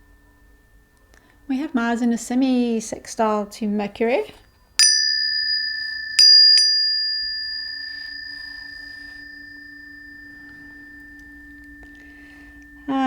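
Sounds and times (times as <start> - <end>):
tuning forks ringing: 0.0 - 2.2, 4.5 - 13.0.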